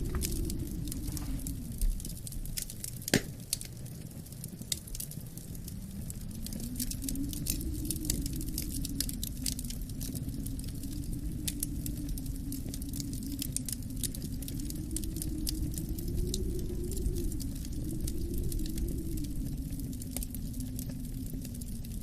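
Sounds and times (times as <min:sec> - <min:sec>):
low wind rush: 0:00.0 - 0:22.0
wood fire crackling and popping: 0:00.0 - 0:22.0.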